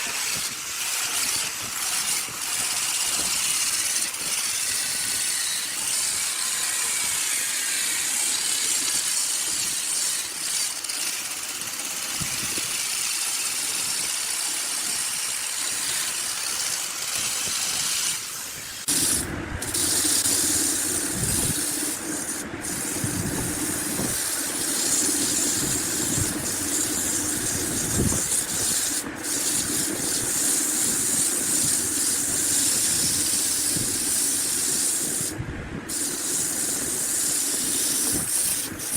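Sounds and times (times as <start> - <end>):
woodworking power tool whirring: 0.0 - 38.9.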